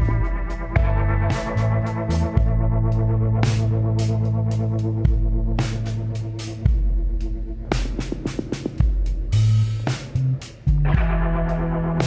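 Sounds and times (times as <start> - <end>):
electronic background music: 0.0 - 10.3.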